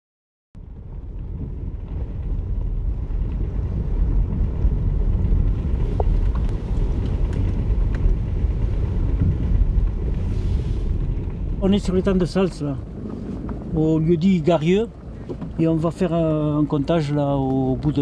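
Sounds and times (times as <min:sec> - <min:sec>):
car engine and tyres rumbling: 0:00.6 - 0:18.0.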